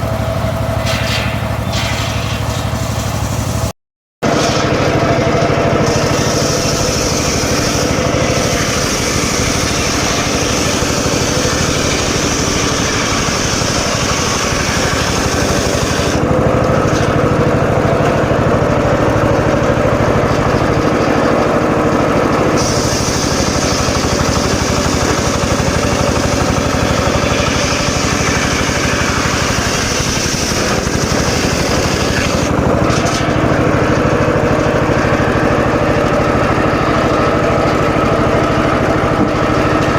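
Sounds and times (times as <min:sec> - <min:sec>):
circular saw cutting wood: 0:00.0 - 0:39.9
engine hum: 0:00.0 - 0:39.9.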